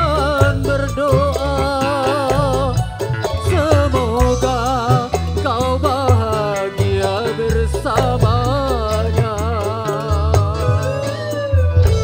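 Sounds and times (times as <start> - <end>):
live band music: 0.0 - 12.0
man singing into microphone: 0.0 - 12.0.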